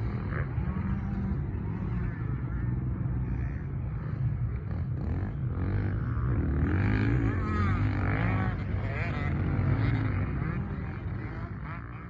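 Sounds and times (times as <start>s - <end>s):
two-stroke dirt bike engine: 0.0s - 12.0s.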